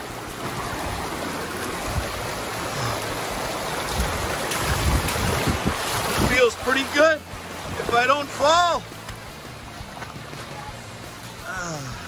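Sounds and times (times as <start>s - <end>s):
mountain creek rushing: 0.0s - 12.0s.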